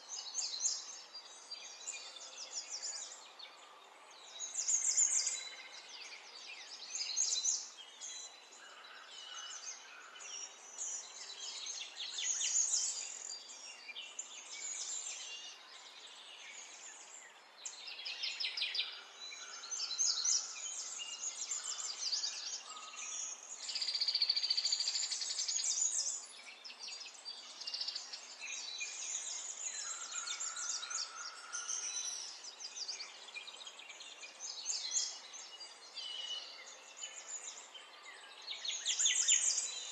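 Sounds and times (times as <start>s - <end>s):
songbirds chirping in chorus: 0.0s - 39.9s.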